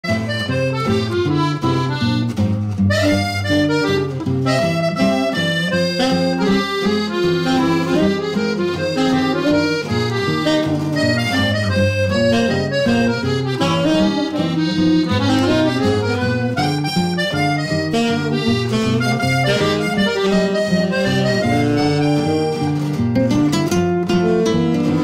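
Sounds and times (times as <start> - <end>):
instrumental music: 0.0 - 25.0.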